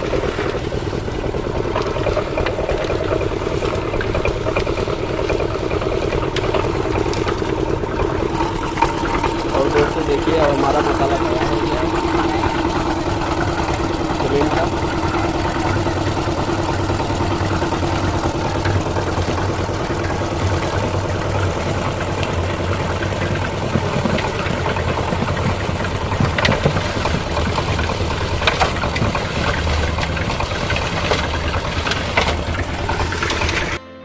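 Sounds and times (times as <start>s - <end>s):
concrete mixer running: 0.0s - 33.8s
sharp knocks: 0.0s - 33.8s.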